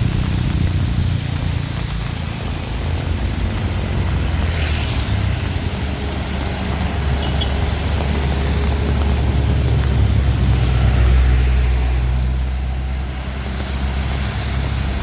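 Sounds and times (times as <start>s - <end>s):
heavy rain falling: 0.0s - 15.0s
steady low rumble: 0.0s - 15.0s.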